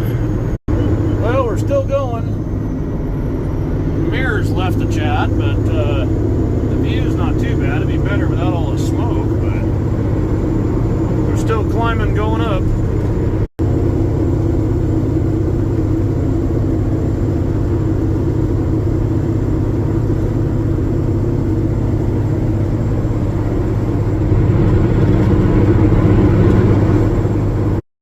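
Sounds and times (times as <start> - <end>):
truck diesel engine pulling: 0.0 - 27.8.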